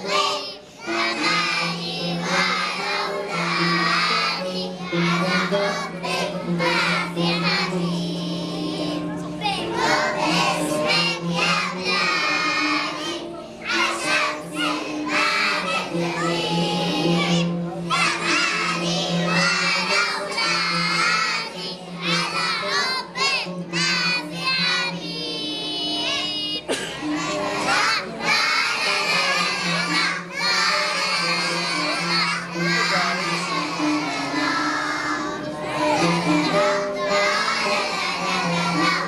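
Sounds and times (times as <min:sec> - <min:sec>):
backing music track: 0:00.0 - 0:39.0
children singing: 0:00.0 - 0:39.0.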